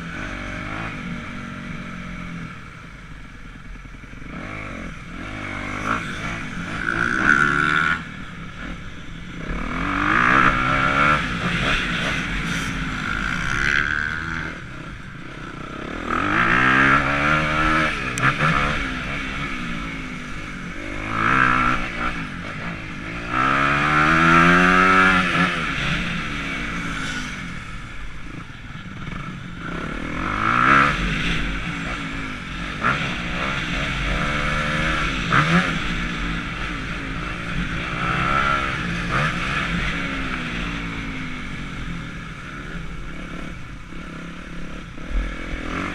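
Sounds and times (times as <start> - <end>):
dirt bike engine revving: 0.0 - 2.7, 4.1 - 45.9.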